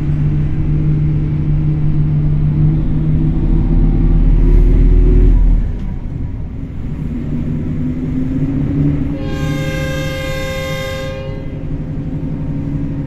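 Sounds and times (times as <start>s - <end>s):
vehicle engine running under load: 0.0s - 13.0s.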